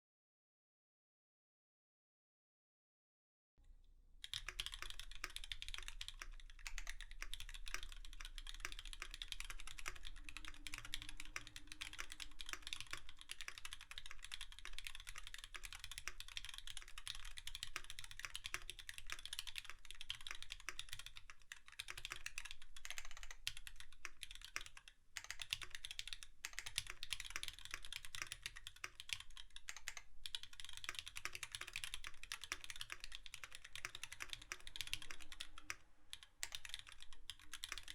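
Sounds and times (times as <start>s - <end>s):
fast typing on mechanical keyboard: 4.2s - 37.9s.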